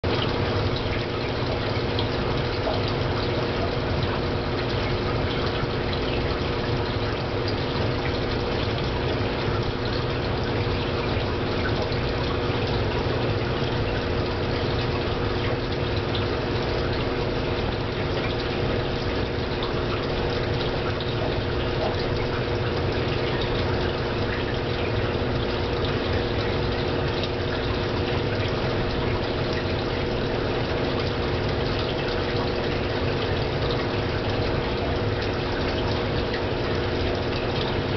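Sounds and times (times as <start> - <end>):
aquarium pump humming: 0.0 - 37.9
water circulating: 0.0 - 37.9.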